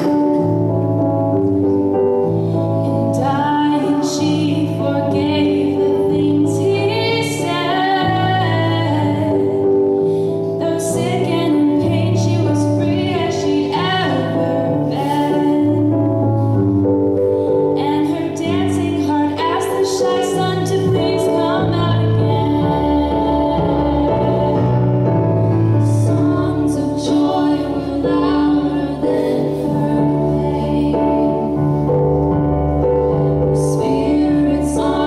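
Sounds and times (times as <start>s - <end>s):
instrumental accompaniment: 0.0s - 35.0s
woman singing slow song: 2.8s - 9.6s, 10.5s - 16.4s, 17.7s - 25.2s, 25.8s - 31.9s, 33.3s - 35.0s.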